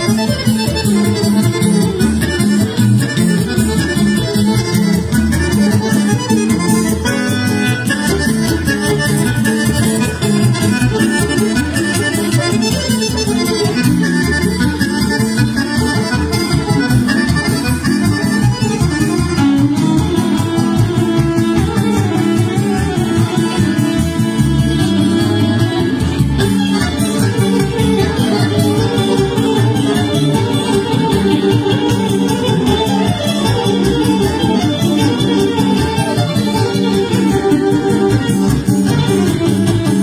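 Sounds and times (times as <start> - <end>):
electric bass line: 0.0 - 40.0
nylon-string guitar chords: 0.0 - 40.0.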